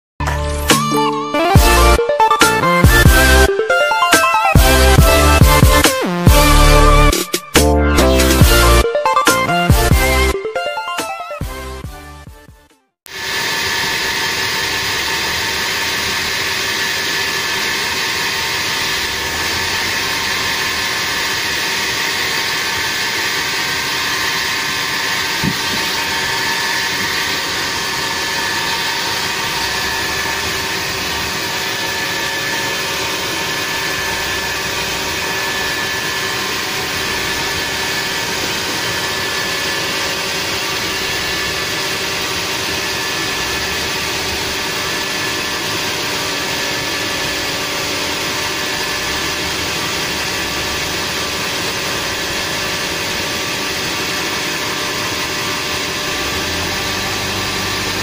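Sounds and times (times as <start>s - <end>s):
band sawmill running: 0.2s - 12.3s, 13.1s - 58.0s.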